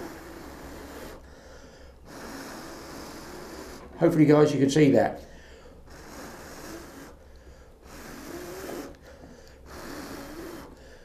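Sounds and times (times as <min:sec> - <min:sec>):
man drawing breath: 0:00.0 - 0:04.0, 0:05.2 - 0:11.0
man blowing hard: 0:00.0 - 0:04.2, 0:05.3 - 0:11.0.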